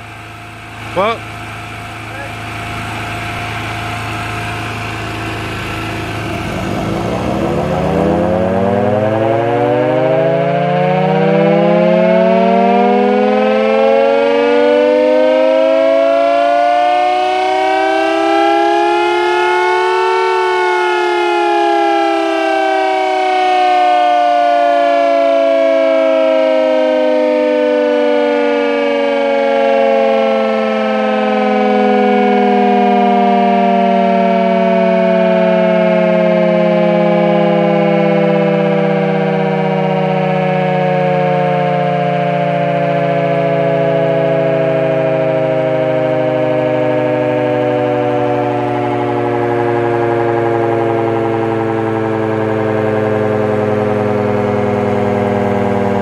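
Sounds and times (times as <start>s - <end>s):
air-raid siren wailing: 0.0s - 56.0s.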